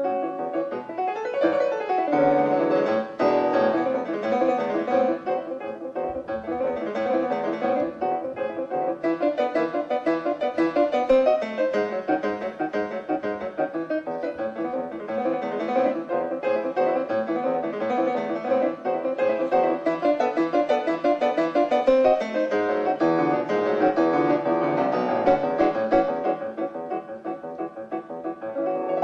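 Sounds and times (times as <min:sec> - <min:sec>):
lively solo piano piece: 0:00.0 - 0:29.0.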